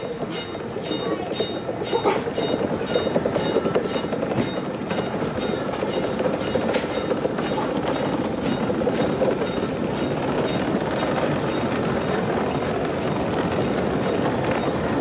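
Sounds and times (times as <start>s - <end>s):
tram rolling rumble: 0.0s - 15.0s
wheels clicking on track: 0.0s - 15.0s.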